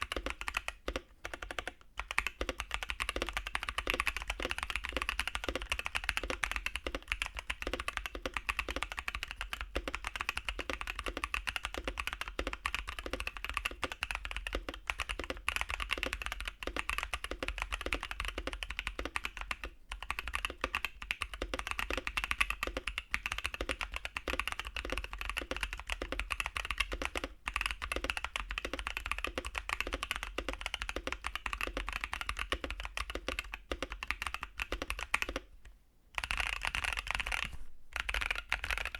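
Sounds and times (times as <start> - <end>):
mechanical keyboard typing: 0.0 - 35.5, 36.2 - 38.9.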